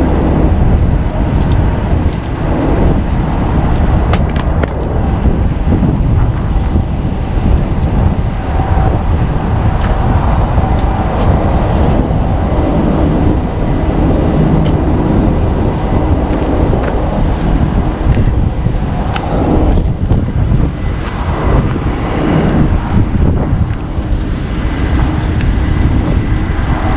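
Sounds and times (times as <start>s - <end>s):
heavy vehicle rumbling: 0.0s - 26.9s
wind buffeting microphone: 0.0s - 26.9s.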